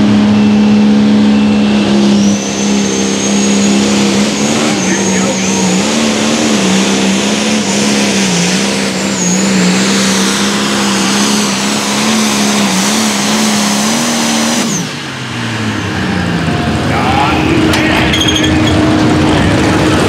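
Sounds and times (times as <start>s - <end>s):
tractor diesel engine at full throttle: 0.0s - 20.0s.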